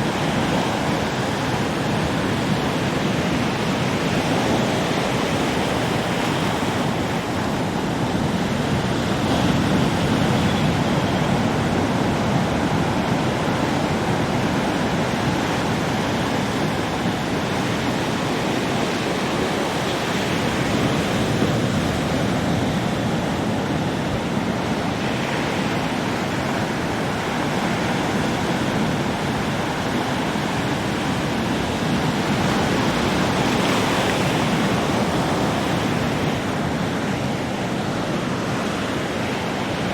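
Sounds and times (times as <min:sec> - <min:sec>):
waves breaking: 0:00.0 - 0:39.9
wind: 0:00.0 - 0:39.9.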